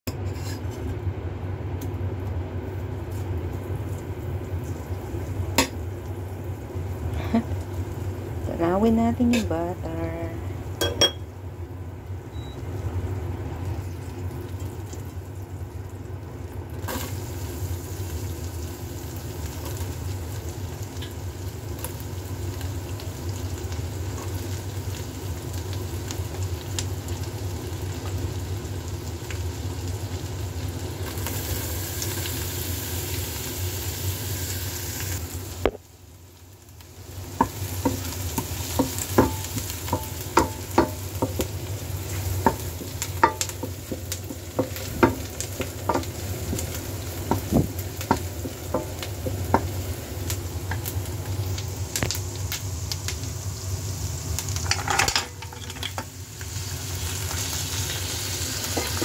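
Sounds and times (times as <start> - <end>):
onion and garlic sizzling in a pan: 0.1 - 59.0.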